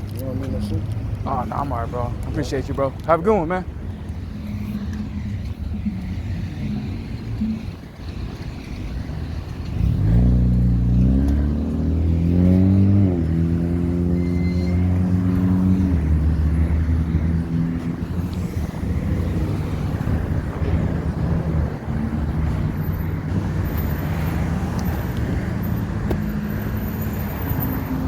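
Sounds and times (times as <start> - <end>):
street traffic noise: 0.0 - 28.0.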